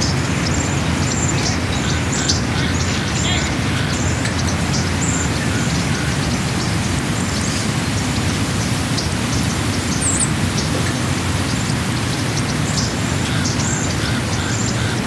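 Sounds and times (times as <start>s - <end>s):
low rumbling noise: 0.0s - 14.8s.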